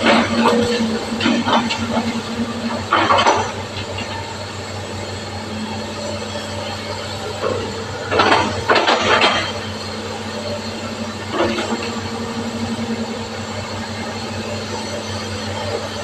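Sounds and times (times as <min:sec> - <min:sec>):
excavator diesel engine running: 0:00.0 - 0:16.0
noisy working bursts: 0:00.0 - 0:16.0.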